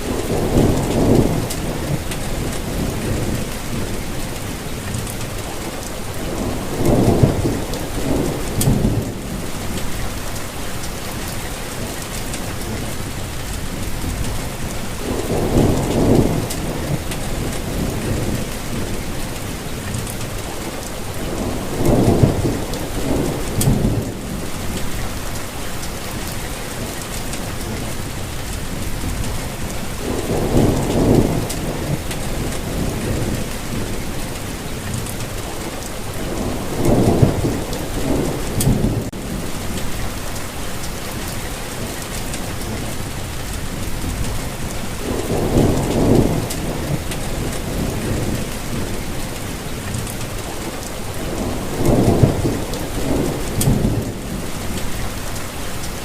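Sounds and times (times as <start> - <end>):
low rolls of thunder: 0.0 - 10.5, 12.5 - 25.5, 28.7 - 40.3, 41.2 - 55.4
steady rainfall: 0.0 - 56.0.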